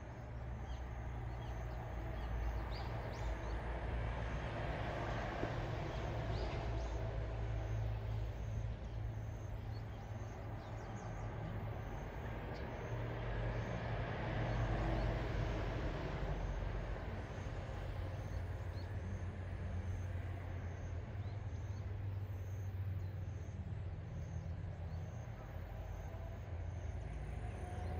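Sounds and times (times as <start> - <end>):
distant road traffic rumble: 0.0 - 27.9.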